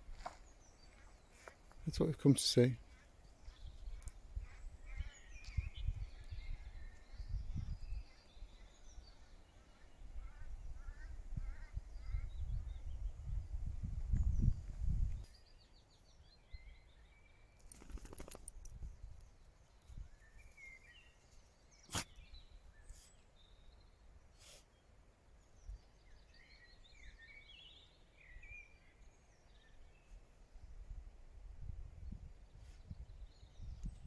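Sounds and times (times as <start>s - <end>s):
songbirds singing: 0.0s - 31.0s, 31.6s - 34.0s.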